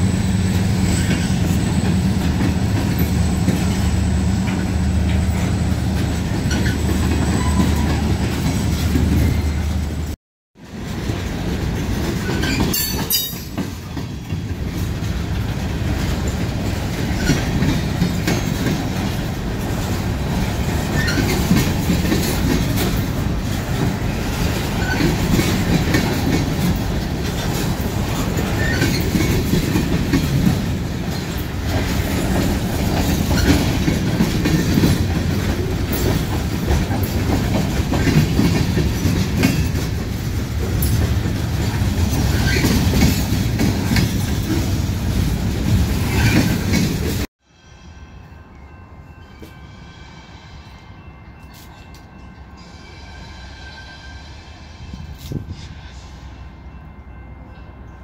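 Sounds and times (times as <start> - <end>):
train cars rumbling past: 0.0 - 58.0
wheels clacking over rail joints: 0.5 - 47.3.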